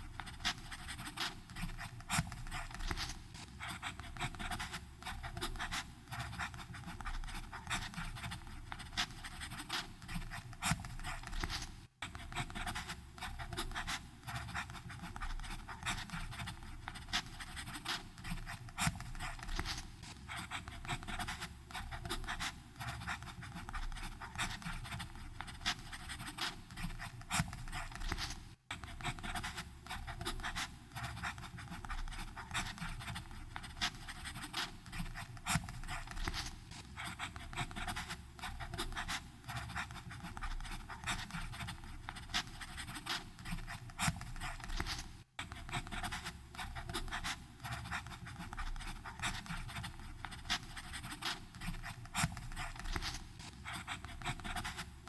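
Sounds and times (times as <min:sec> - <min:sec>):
pen nib scratching on paper: 0:00.0 - 0:55.0.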